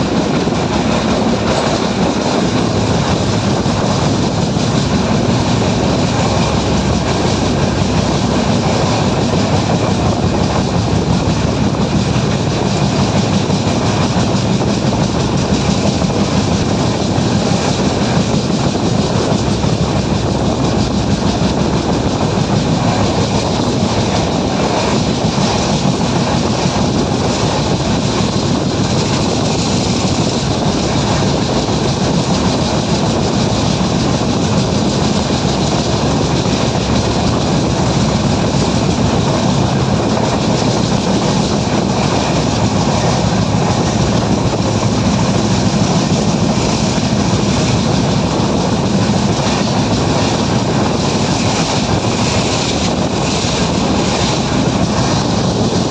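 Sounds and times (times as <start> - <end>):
train wheels rolling on rails: 0.0 - 55.9.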